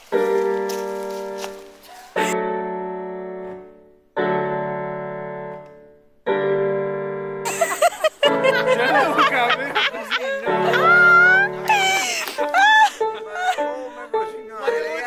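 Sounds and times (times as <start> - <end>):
slow solo piano chords: 0.0 - 7.6, 8.2 - 15.0.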